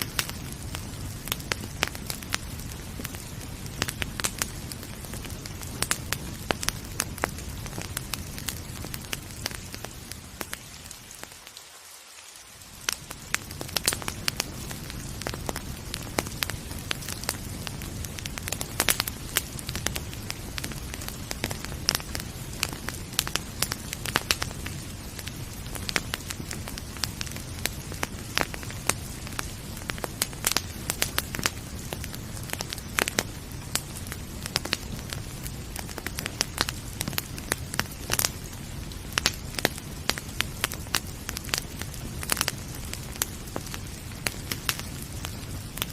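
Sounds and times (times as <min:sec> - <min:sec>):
rain hissing: 0:00.0 - 0:45.9
wood fire crackling and popping: 0:00.0 - 0:45.9.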